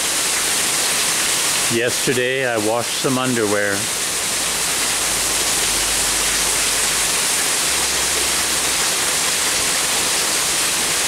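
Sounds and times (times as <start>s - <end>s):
heavy rain downpour: 0.0s - 11.0s
water pouring off roof edge: 0.0s - 11.0s.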